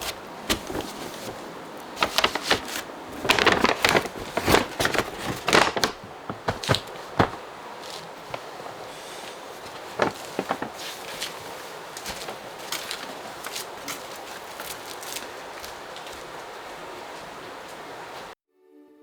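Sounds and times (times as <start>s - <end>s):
fruit and packing material handled: 0.0s - 16.4s.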